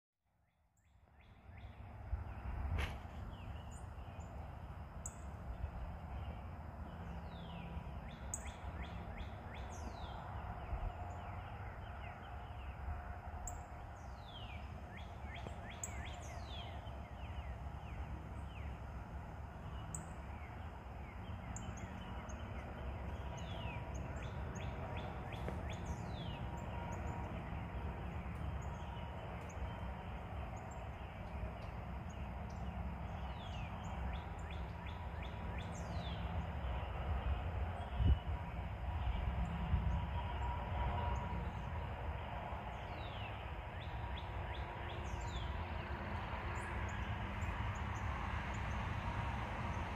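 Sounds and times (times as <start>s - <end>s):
steady low rumble: 1.7s - 47.9s.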